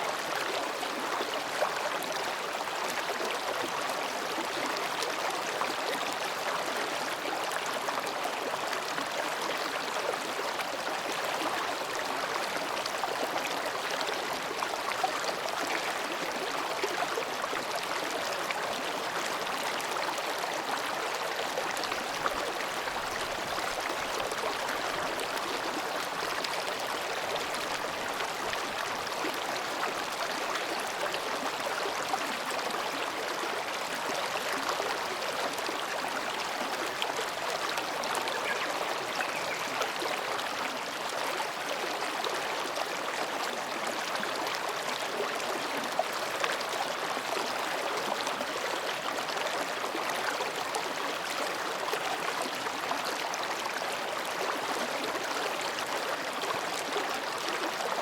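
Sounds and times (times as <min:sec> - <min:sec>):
stream babbling over rocks: 0:00.1 - 0:58.0.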